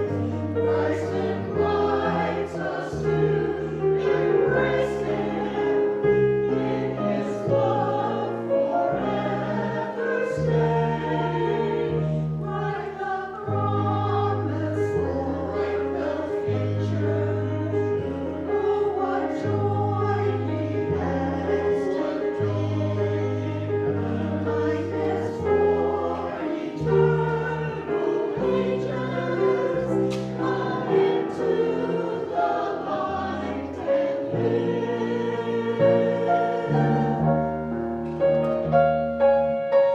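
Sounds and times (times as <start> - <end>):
choir singing a slow hymn: 0.0 - 39.9.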